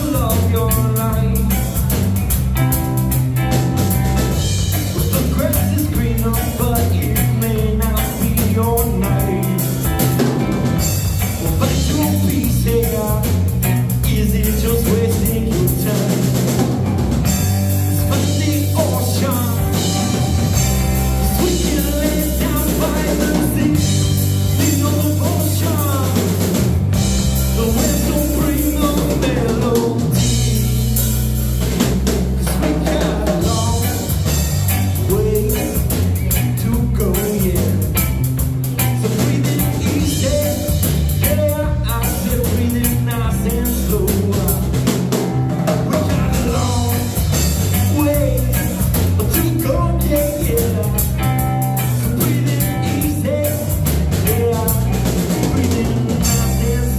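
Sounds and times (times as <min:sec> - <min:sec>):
rock band playing live: 0:00.0 - 0:56.9
steady drum beat: 0:00.0 - 0:56.9.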